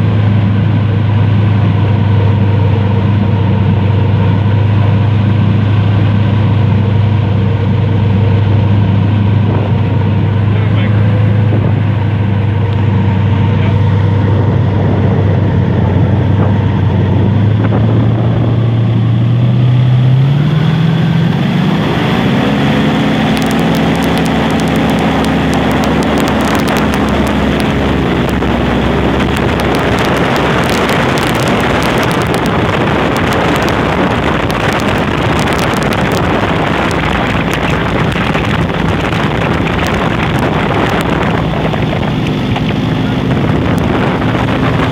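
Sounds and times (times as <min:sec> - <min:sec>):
airboat engine and propeller: 0:00.0 - 0:44.9
wind on microphone: 0:00.0 - 0:44.9.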